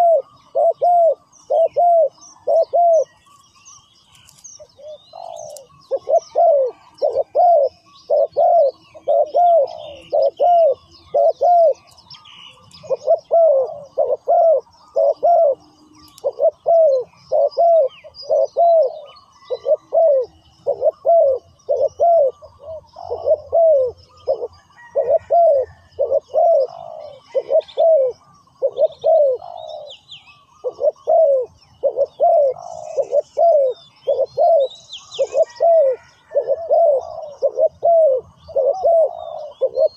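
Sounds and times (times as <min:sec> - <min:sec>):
dove cooing: 0:00.0 - 0:03.4, 0:04.2 - 0:39.9
small birds chirping: 0:00.0 - 0:39.9.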